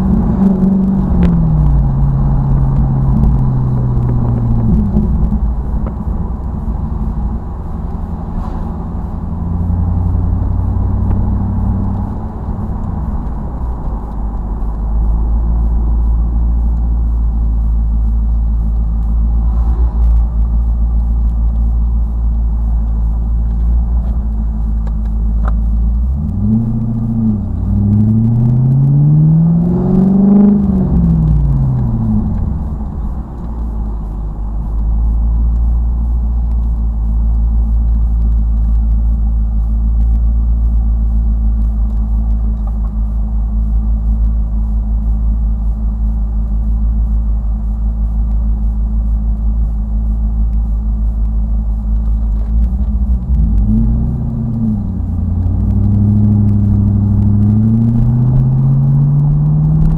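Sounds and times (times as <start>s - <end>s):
car engine revving: 0.0s - 59.9s
road rumble: 0.0s - 59.9s.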